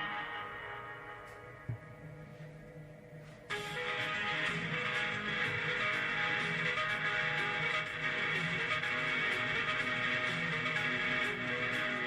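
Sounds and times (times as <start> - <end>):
background music with held tones: 0.0 - 12.0.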